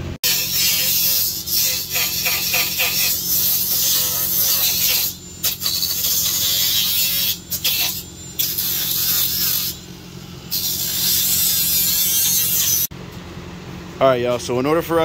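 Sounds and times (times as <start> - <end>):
rotary tool grinding steel: 0.2 - 12.9.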